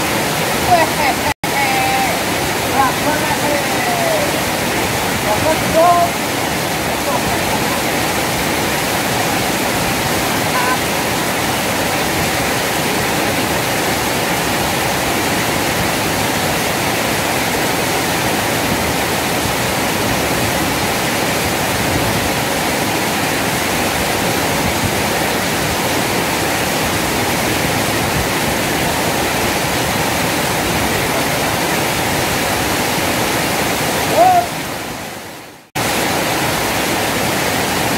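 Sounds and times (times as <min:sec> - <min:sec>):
water rushing over weir: 0:00.0 - 0:37.9.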